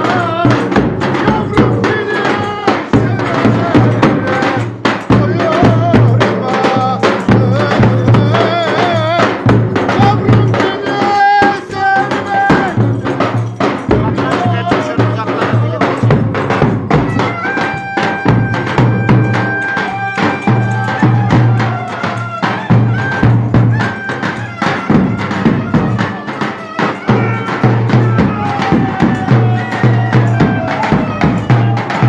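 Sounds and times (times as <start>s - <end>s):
fast percussion: 0.0s - 32.0s
folk dance band music: 0.0s - 32.0s
sliding melody line: 1.1s - 32.0s.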